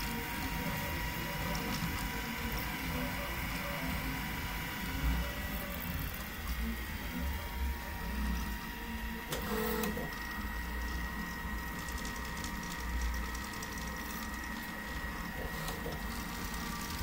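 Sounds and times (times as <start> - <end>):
stepper motors humming and whining: 0.0 - 17.0.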